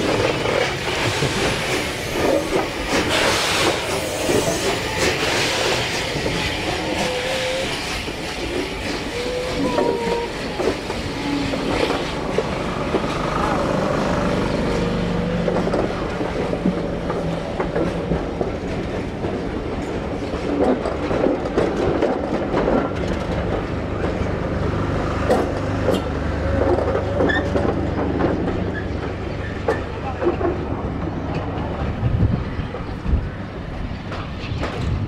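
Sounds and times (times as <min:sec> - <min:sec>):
train wheels rumbling on rails: 0:00.0 - 0:35.0
wheels clanking over rail joints: 0:00.0 - 0:35.0.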